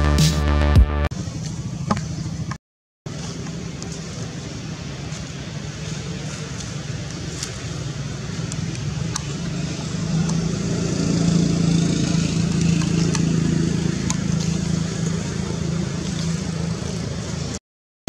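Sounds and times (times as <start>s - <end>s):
low engine hum: 3.1s - 17.6s.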